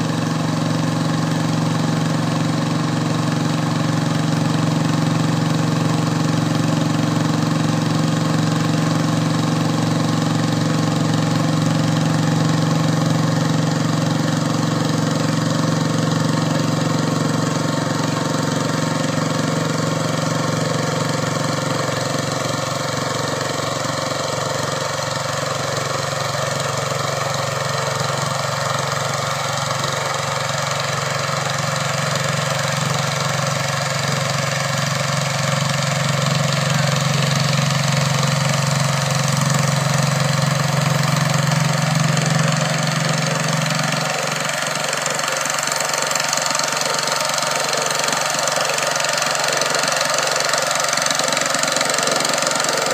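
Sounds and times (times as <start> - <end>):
tractor engine idling: 0.0 - 52.9.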